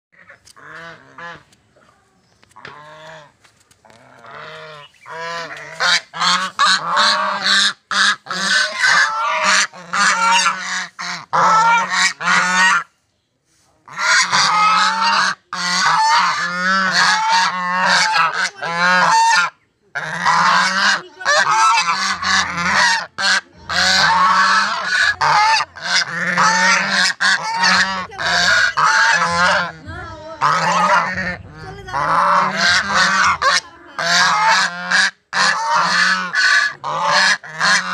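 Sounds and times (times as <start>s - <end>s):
geese honking: 0.2s - 1.6s, 2.5s - 12.9s, 13.9s - 37.9s.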